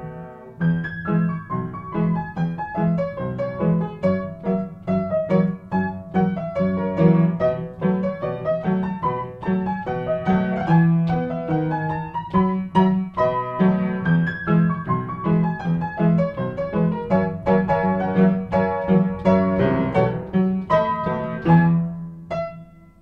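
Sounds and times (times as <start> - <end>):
silent-film style piano: 0.0 - 23.0.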